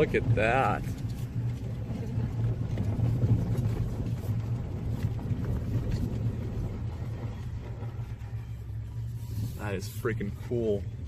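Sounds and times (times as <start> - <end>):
engine hum in vehicle cabin: 0.0 - 11.0.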